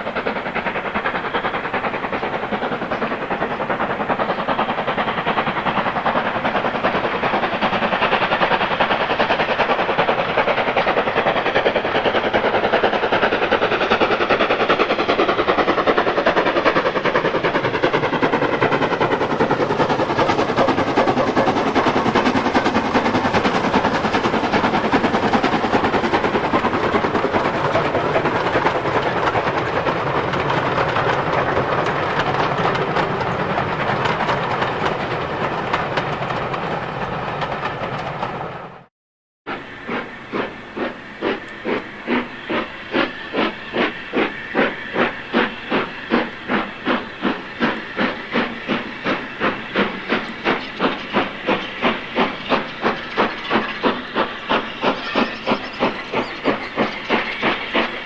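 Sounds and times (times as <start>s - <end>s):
steam hiss: 0.0s - 38.7s, 39.5s - 58.0s
steam locomotive exhaust beats: 0.0s - 38.9s, 39.5s - 58.0s
steam locomotive exhaust roar: 0.0s - 38.9s, 39.5s - 58.0s.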